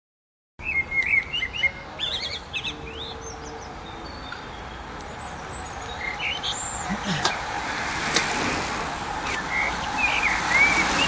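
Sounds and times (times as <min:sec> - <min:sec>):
songbird chirping: 0:00.6 - 0:08.3, 0:08.9 - 0:11.0
faint outdoor background noise: 0:00.6 - 0:11.0.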